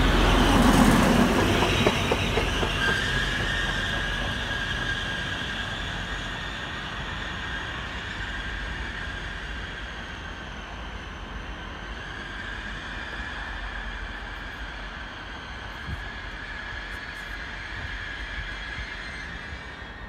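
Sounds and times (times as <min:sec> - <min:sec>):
high-pitched whine: 0:00.0 - 0:20.0
train passing on rails: 0:00.0 - 0:20.0.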